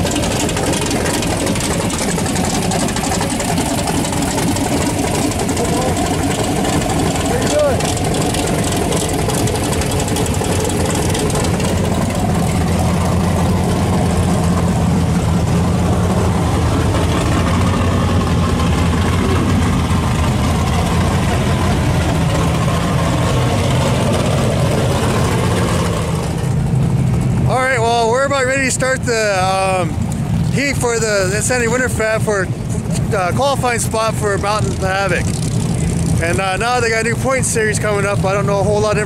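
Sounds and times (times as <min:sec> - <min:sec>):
buggy engine idling: 0:00.0 - 0:39.0.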